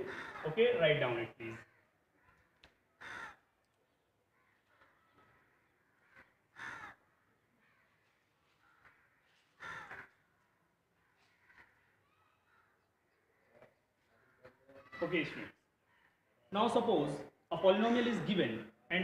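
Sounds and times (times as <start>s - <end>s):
crow cawing: 0.0s - 0.9s, 1.5s - 16.4s.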